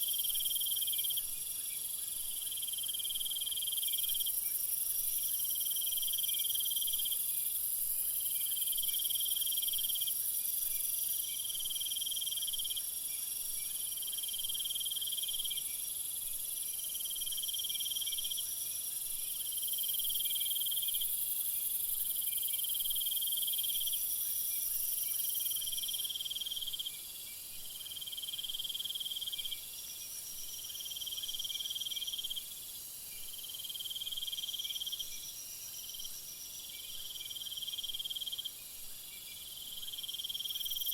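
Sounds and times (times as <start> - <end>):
insects trilling high-pitched: 0.0 - 40.9
lower pulsing insect call: 0.0 - 40.9.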